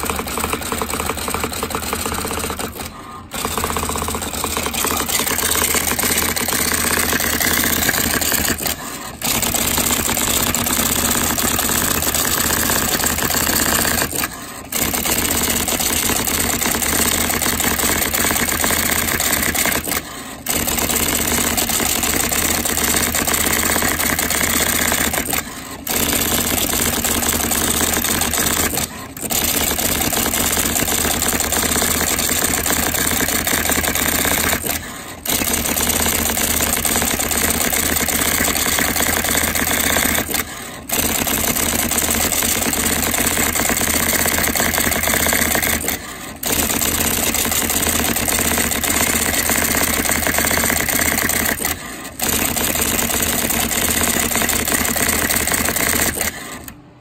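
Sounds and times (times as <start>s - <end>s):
typewriter rattling: 0.0s - 56.8s.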